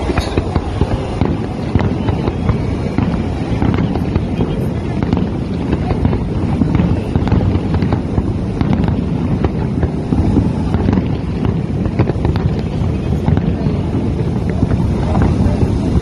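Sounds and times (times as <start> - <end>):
distant fireworks popping: 0.0 - 16.0
wind buffeting microphone: 0.0 - 16.0.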